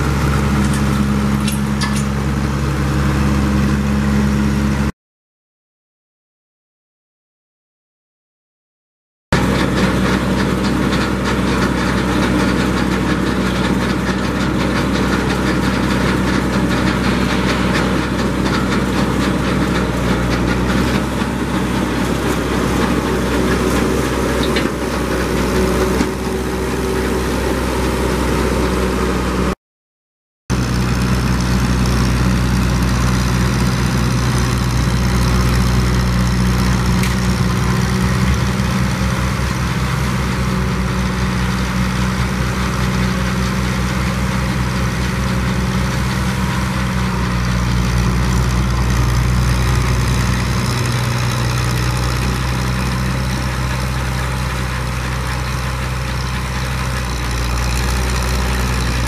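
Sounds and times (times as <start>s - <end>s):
snowblower working: 0.0s - 4.9s, 9.4s - 29.6s, 30.5s - 59.0s
tractor engine running: 0.0s - 4.9s, 9.3s - 29.6s, 30.5s - 59.0s.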